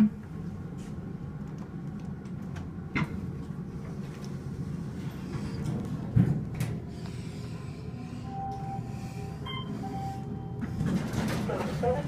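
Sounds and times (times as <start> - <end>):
elevator ride hum: 0.0 - 12.0.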